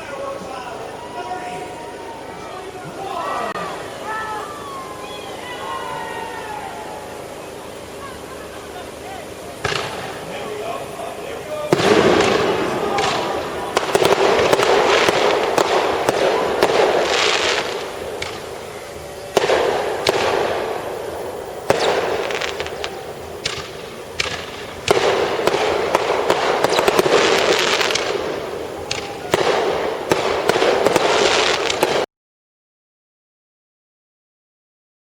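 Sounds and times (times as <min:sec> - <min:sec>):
fireworks crackling bursts: 0:00.0 - 0:32.1.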